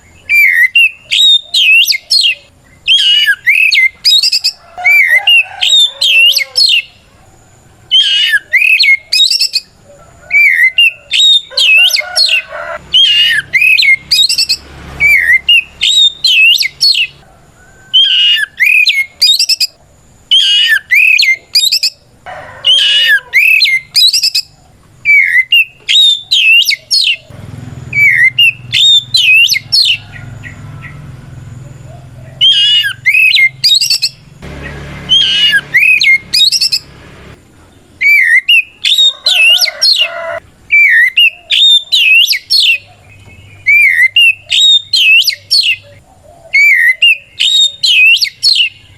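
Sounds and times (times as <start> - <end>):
bird singing whistled song: 0.0 - 7.0, 7.9 - 17.2, 17.9 - 22.0, 22.7 - 27.3, 27.9 - 31.0, 32.4 - 34.2, 35.1 - 36.9, 38.0 - 40.1, 40.7 - 48.9.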